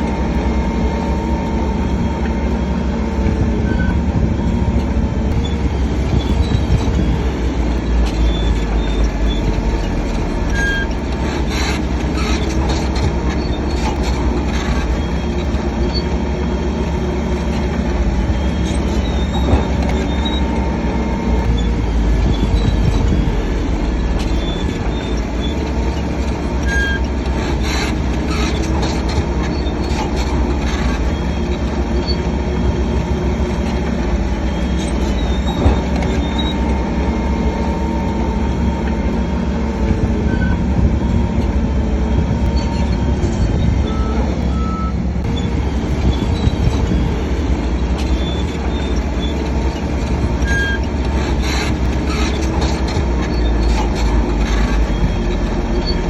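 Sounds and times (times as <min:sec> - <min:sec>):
bulldozer diesel engine rumbling: 0:00.0 - 0:56.0
steel tracks squealing and clanking: 0:00.0 - 0:56.0.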